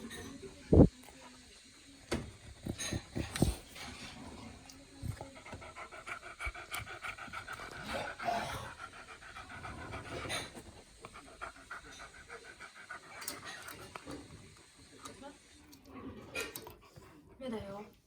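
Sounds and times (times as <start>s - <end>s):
dog panting rapidly: 2.1s - 15.3s, 16.3s - 18.0s.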